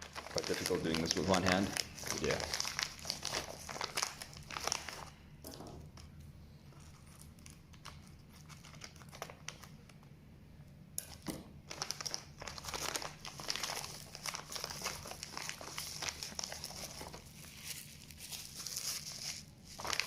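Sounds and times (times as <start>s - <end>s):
packaging crinkling: 0.0s - 10.1s, 11.0s - 20.0s.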